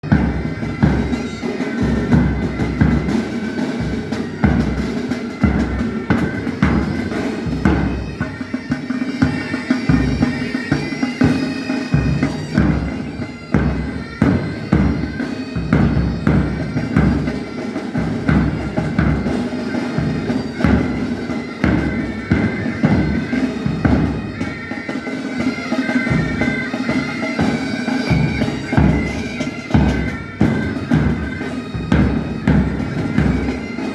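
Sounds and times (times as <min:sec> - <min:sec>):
bagpipes playing: 0:00.0 - 0:33.9
drums beating march rhythm: 0:00.0 - 0:33.9.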